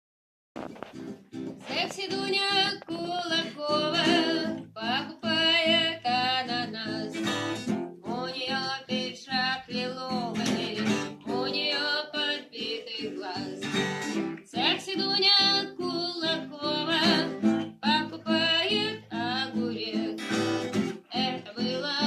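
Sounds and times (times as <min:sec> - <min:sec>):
acoustic guitar strumming: 0:00.6 - 0:22.0
person singing: 0:01.6 - 0:22.0.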